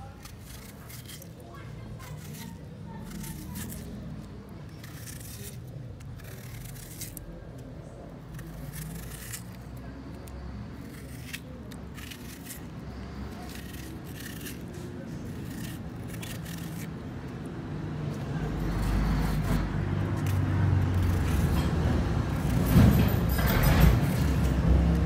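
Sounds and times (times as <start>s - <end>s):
knife cutting onion: 0.0s - 25.0s
vehicle engine rumble: 0.8s - 25.0s.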